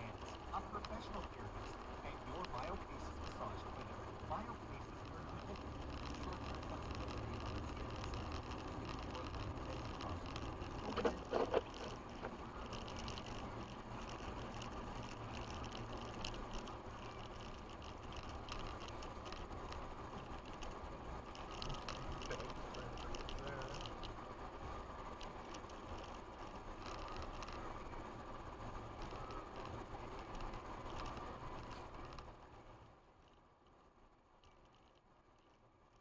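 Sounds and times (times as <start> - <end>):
truck engine and road rumble: 0.0 - 36.0.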